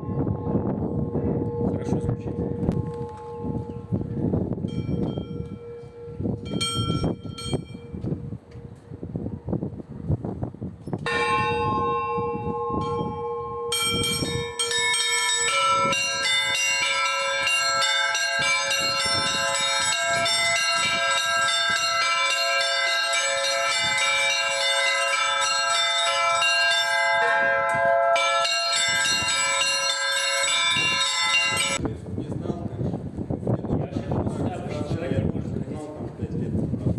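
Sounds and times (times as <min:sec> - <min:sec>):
church bells pealing: 0:00.0 - 0:08.8, 0:11.0 - 0:31.8.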